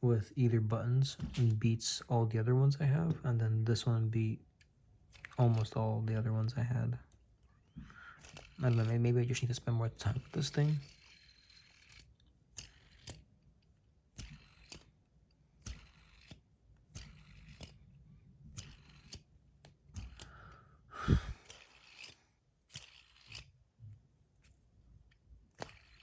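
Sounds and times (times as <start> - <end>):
fidget spinner clicks and scrapes: 3.0 - 20.4, 21.3 - 26.0.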